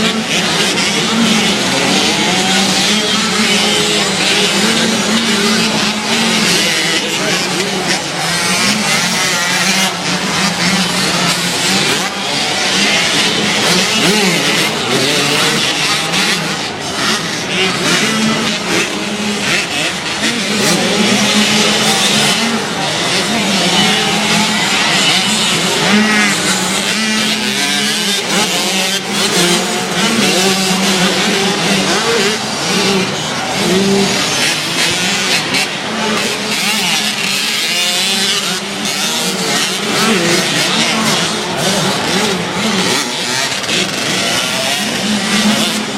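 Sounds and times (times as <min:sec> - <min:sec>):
motocross engines revving: 0:00.0 - 0:45.9.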